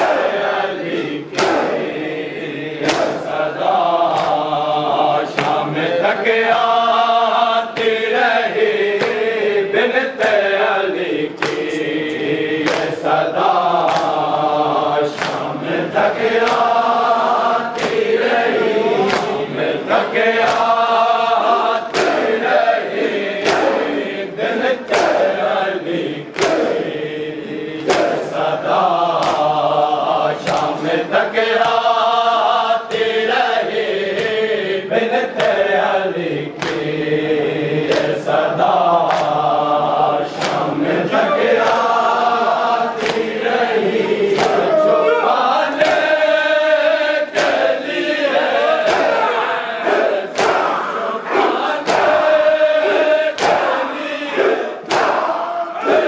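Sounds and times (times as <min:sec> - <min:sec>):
mourners chanting in chorus: 0:00.0 - 0:56.0
rhythmic chest-beating: 0:00.0 - 0:56.0.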